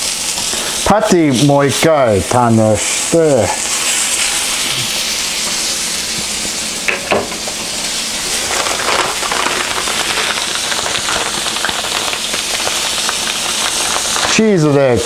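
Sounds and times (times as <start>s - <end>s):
patty sizzling on griddle: 0.0s - 15.0s.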